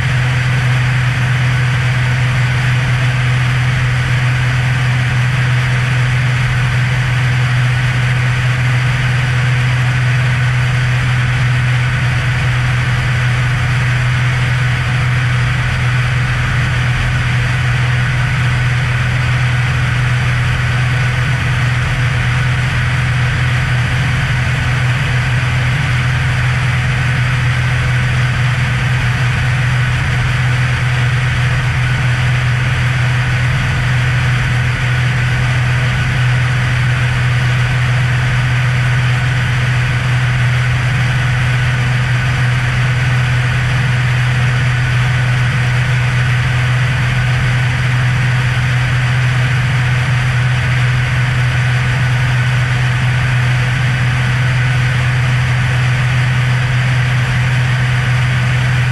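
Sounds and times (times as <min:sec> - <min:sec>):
airplane engine and propeller drone: 0:00.0 - 0:58.9.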